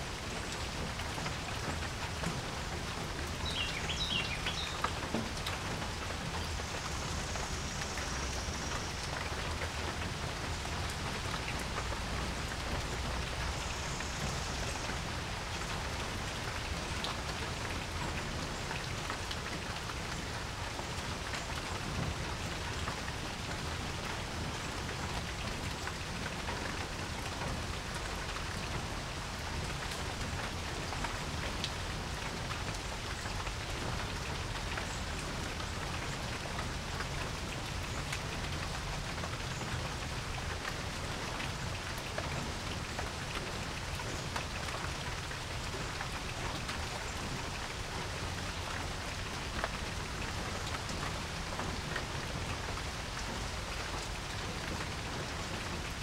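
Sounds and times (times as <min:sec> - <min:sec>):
rain falling on a porch: 0:00.0 - 0:56.0.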